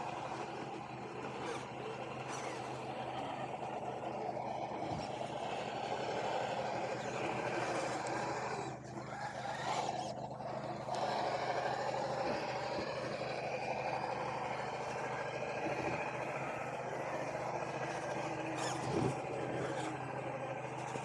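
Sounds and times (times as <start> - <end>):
toy car electric motor whining: 0.0 - 21.0.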